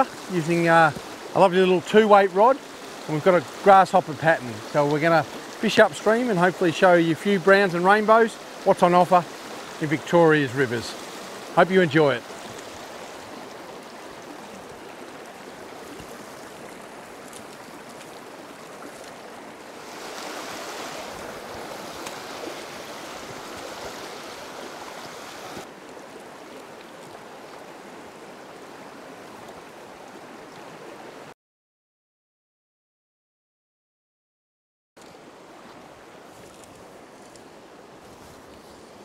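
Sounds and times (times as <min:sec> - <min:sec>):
stream running over rocks: 0:00.0 - 0:31.3, 0:35.0 - 0:39.0.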